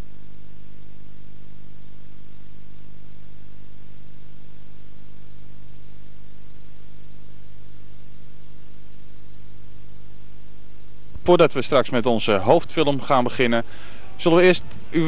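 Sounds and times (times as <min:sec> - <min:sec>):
low electrical hum: 0:00.0 - 0:15.0
steady hiss: 0:00.0 - 0:15.0.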